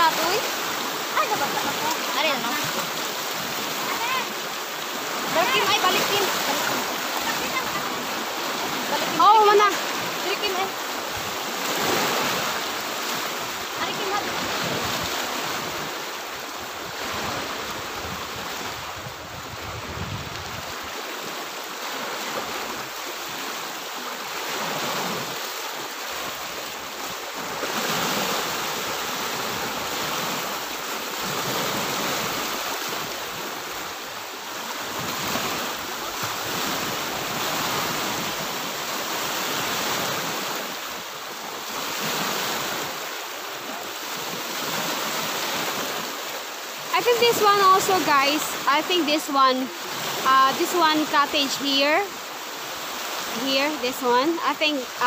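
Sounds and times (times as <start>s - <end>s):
waves washing onto pebbles: 0.0s - 55.0s.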